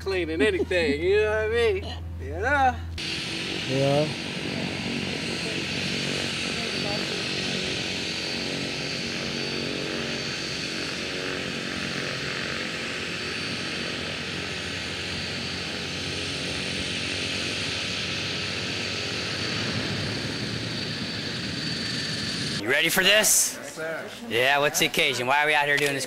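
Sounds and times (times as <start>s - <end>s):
propeller engines running: 0.0s - 23.6s
steady high whine: 0.0s - 23.9s.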